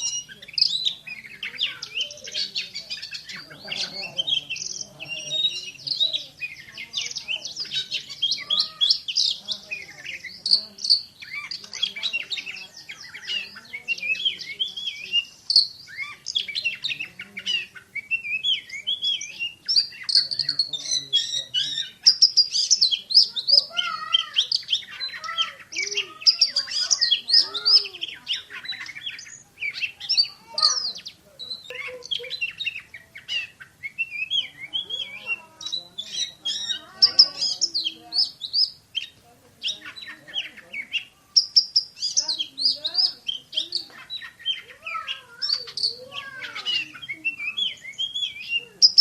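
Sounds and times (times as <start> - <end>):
magpie-robin singing whistled trills: 0.0 - 49.0.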